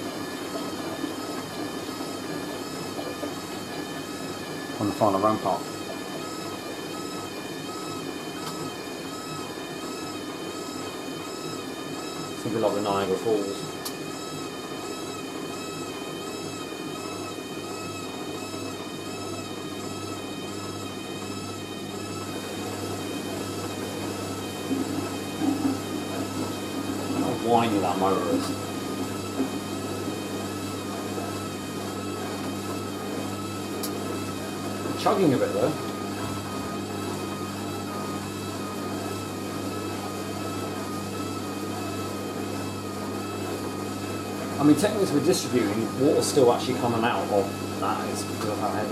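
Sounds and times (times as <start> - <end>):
washing machine spinning: 0.0 - 48.9.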